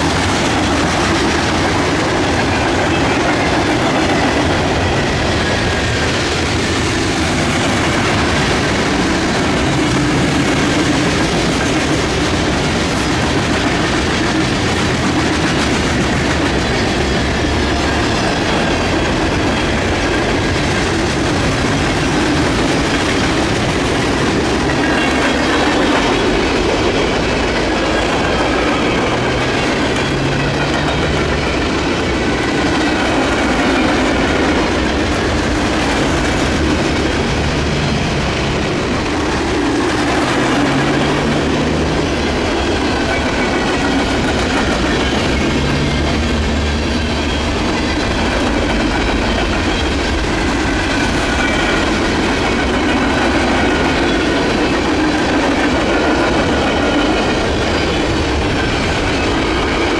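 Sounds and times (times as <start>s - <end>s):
train wheels clacking over rail joints: 0.0s - 59.9s.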